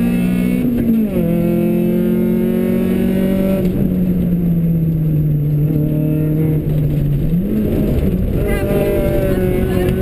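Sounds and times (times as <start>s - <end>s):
rally car engine from cockpit: 0.0s - 10.0s.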